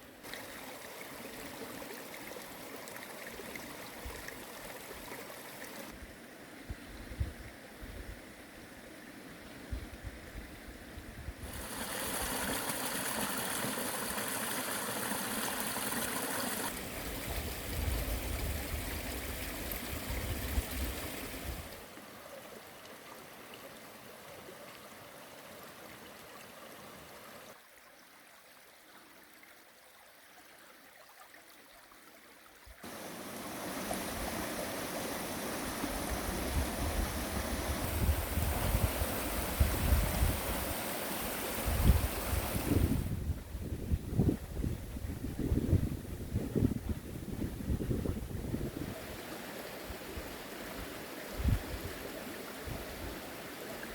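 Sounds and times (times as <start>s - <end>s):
stream running water: 0.0s - 53.9s.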